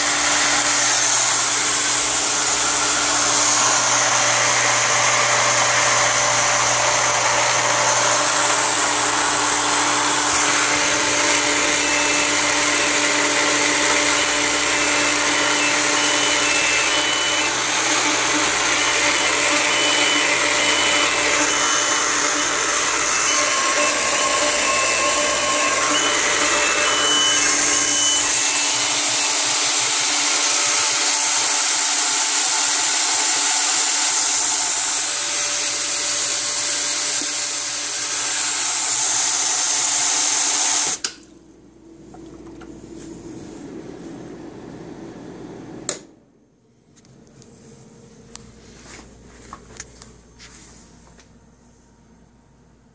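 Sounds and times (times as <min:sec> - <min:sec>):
water pump motor hum: 0:00.0 - 0:46.1.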